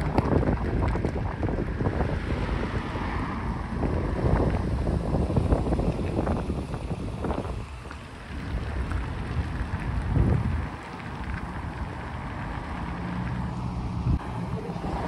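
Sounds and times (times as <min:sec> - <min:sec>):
cars driving past: 0:00.0 - 0:15.0
wind noise on microphone: 0:00.0 - 0:15.0.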